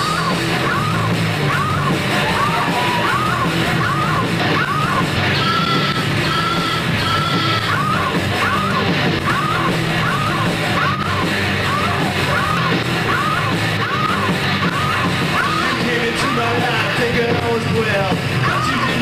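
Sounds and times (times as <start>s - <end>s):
rock band playing loudly: 0.0s - 19.0s.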